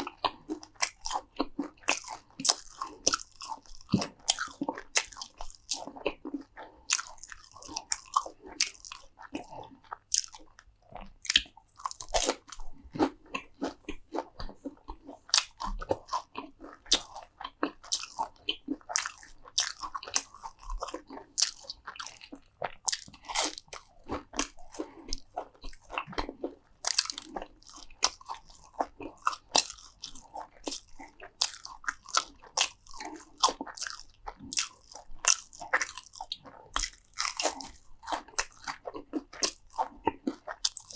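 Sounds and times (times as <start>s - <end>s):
crisp food crunching: 0.0s - 40.9s
wet mouth sounds: 0.0s - 40.9s.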